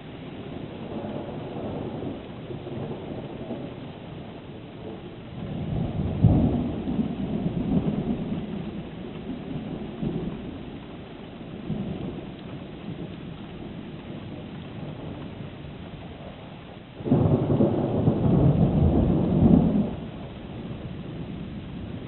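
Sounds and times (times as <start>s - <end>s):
rain hiss: 0.0s - 22.0s
thunder clap and rumble: 0.0s - 22.0s.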